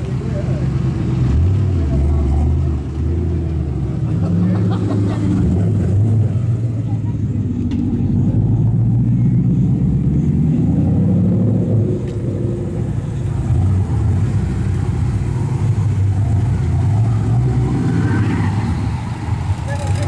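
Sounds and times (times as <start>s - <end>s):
car exhaust rumbling: 0.0s - 20.0s.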